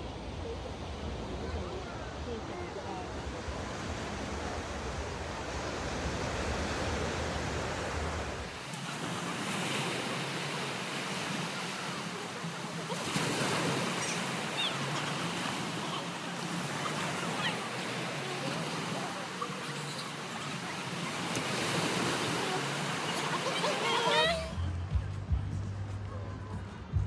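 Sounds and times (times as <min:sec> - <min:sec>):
ocean waves breaking: 0:00.0 - 0:24.6.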